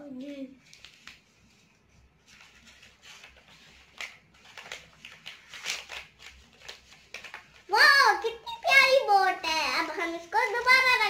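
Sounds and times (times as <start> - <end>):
paper rustling and crinkling: 0.1 - 11.0.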